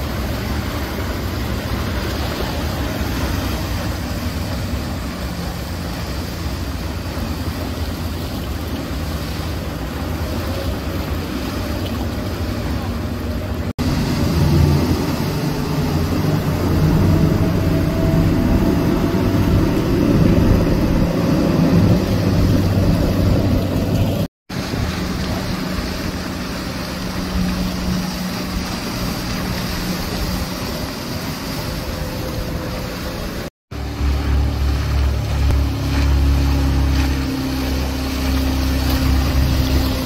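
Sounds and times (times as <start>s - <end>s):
rush of spray and wind: 0.0s - 40.0s
speedboat engine drone: 0.0s - 40.0s.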